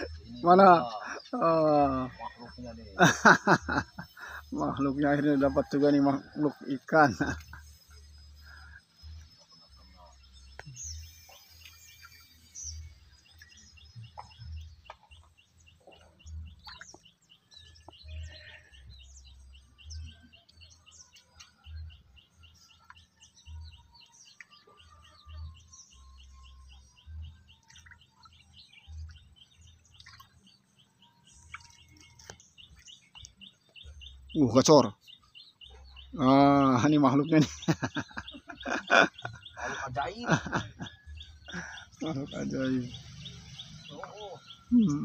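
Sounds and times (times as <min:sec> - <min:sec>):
faint birdsong: 0:00.0 - 0:45.0.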